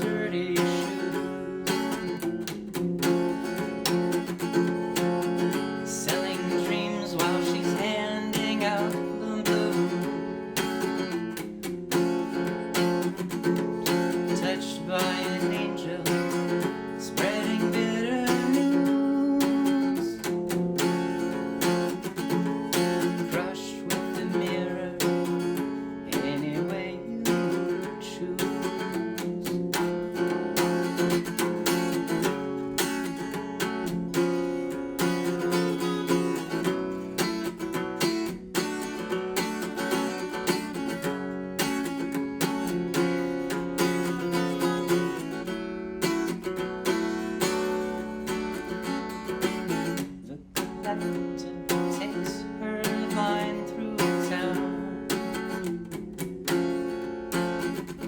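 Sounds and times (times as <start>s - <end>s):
strummed acoustic guitar: 0.0s - 58.0s.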